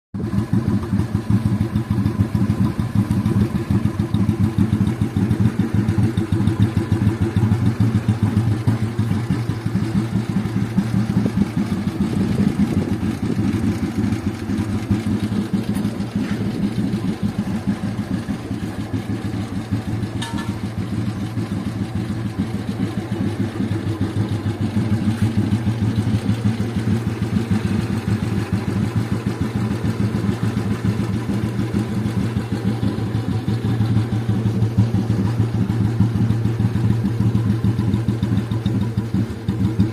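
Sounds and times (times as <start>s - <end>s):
motorcycle engine thumping: 0.2s - 39.9s.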